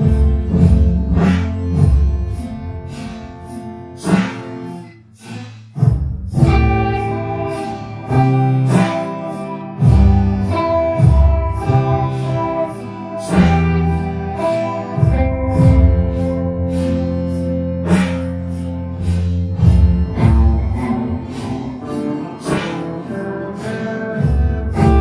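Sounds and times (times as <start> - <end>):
background music with beat: 0.0 - 25.0.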